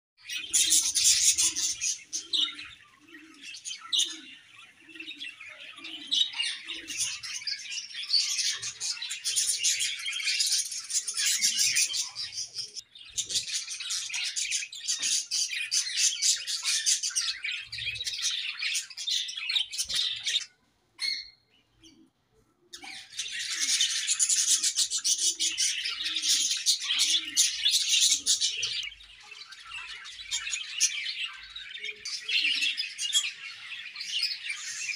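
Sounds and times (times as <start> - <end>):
budgerigars chirping and chattering: 0.2 - 21.3, 22.8 - 34.9.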